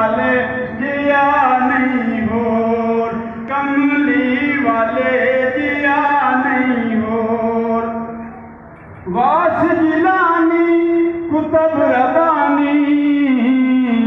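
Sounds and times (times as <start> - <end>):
man singing into a microphone: 0.0 - 8.2, 9.0 - 14.0.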